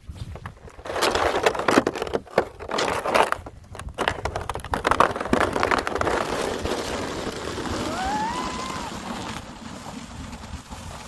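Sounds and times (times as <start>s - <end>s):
sled sliding over snow: 0.3s - 11.0s.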